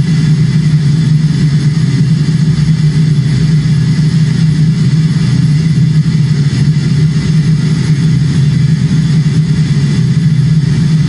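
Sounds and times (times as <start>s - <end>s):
low drone with hiss: 0.0s - 11.0s.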